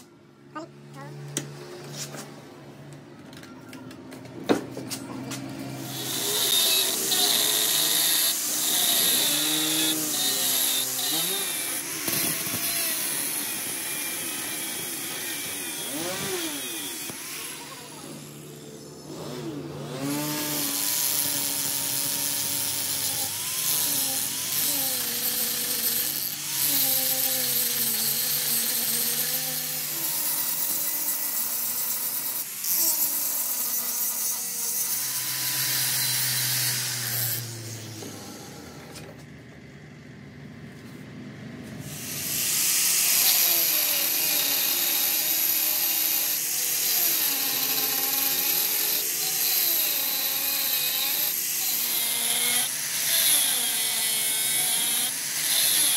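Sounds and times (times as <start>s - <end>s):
angle grinder grinding steel: 4.9s - 39.2s, 41.8s - 55.9s.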